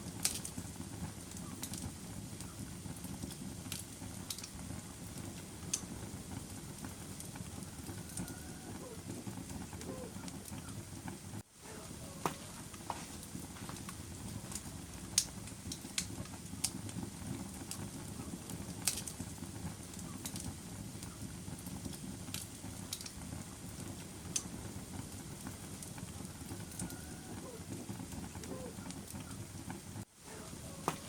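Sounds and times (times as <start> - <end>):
fire crackling and popping: 0.0 - 31.0
low rush of flame: 0.0 - 31.0.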